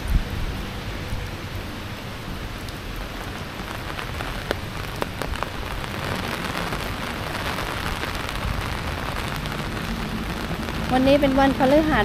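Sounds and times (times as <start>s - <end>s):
heavy rain on paving and foliage: 0.0s - 12.0s.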